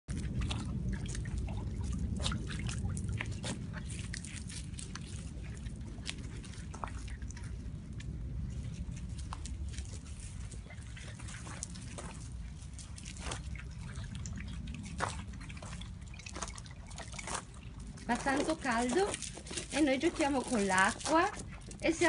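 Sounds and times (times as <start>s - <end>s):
puppies lapping water: 0.1s - 22.0s
steady low rumble: 0.1s - 22.0s
paws scuffling on gravel: 3.1s - 22.0s.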